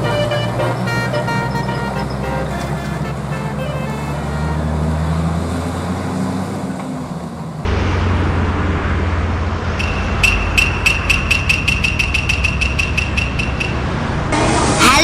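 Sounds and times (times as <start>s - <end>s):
heavy vehicle engine rumbling: 0.0s - 15.0s
road traffic: 0.0s - 15.0s.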